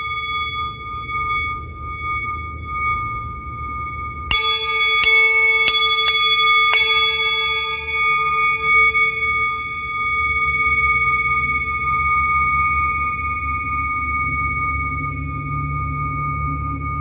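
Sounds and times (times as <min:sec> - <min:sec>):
bell-like instrument struck: 0:00.0 - 0:17.0
singing bowl ringing: 0:00.0 - 0:17.0.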